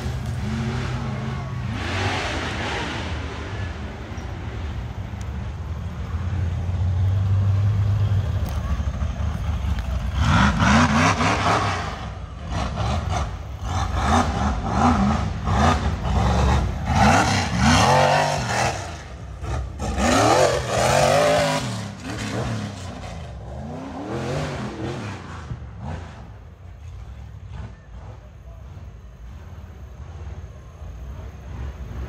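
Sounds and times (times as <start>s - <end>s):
buggy engine revving: 0.0s - 30.4s.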